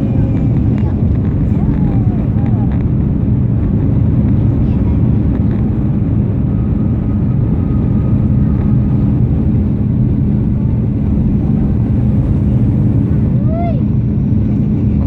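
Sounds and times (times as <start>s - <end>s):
constant low hum: 0.0s - 15.0s
jet engine and airflow drone: 0.0s - 15.0s.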